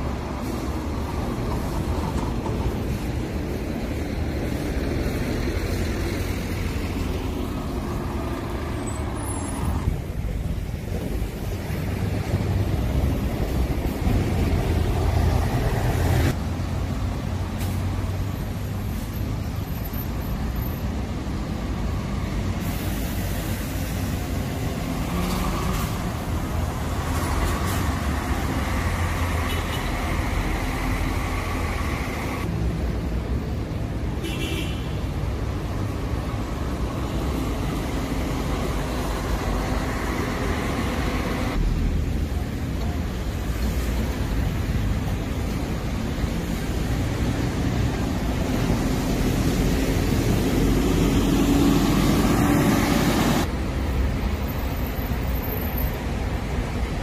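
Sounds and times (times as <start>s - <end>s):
bus engines droning: 0.0s - 57.0s
road noise: 0.0s - 57.0s.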